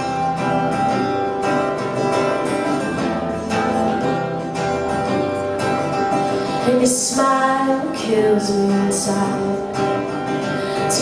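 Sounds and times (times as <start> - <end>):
guitar ballad accompaniment: 0.0 - 11.0.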